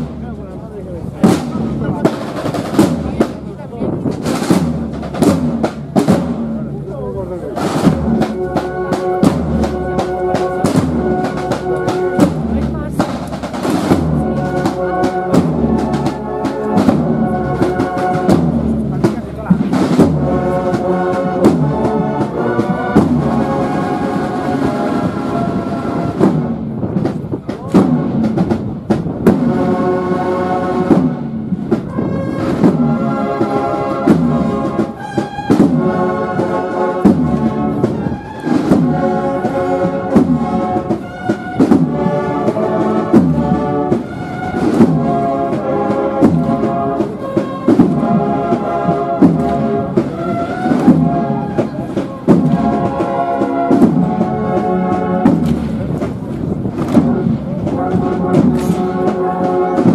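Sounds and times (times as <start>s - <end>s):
brass band march: 0.0s - 59.9s
drum beats: 0.0s - 59.9s.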